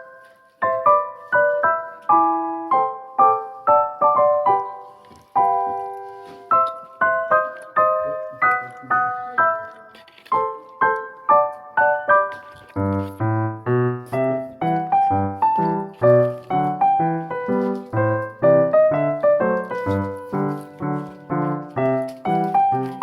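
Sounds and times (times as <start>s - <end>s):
solo piano melody: 0.0s - 23.0s.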